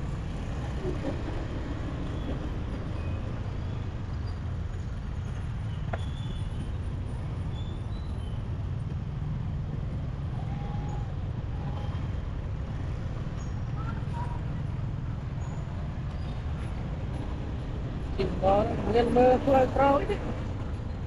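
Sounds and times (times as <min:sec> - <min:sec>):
motorbike engine rumble: 0:00.0 - 0:21.0.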